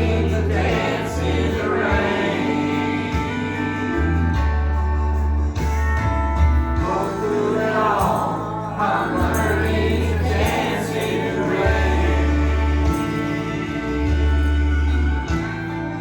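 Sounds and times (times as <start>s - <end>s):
choir singing gospel song: 0.0s - 4.7s, 6.8s - 16.0s
held bass notes: 0.0s - 16.0s.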